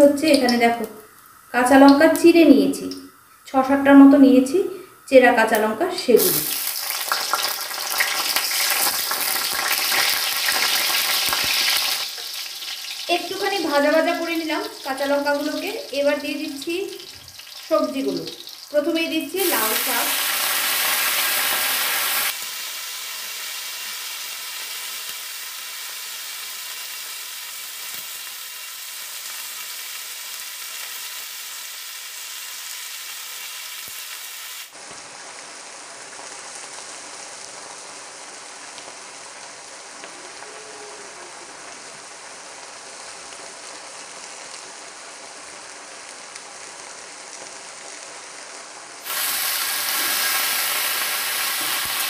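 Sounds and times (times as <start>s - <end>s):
greens frying in oil: 0.0s - 52.0s.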